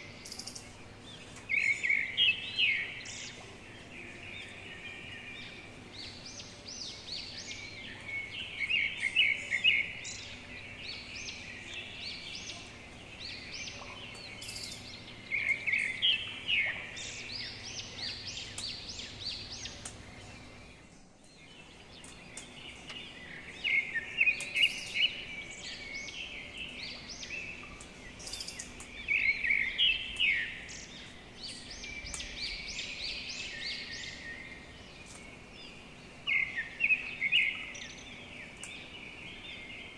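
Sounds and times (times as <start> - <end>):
faint outdoor background: 0.0 - 39.9
small birds chirping: 0.0 - 39.9.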